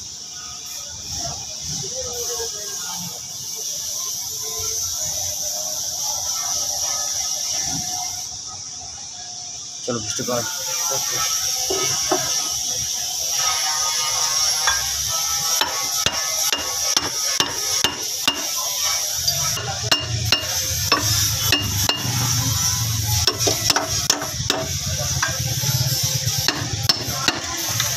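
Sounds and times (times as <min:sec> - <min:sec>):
steady hiss: 0:00.0 - 0:27.9.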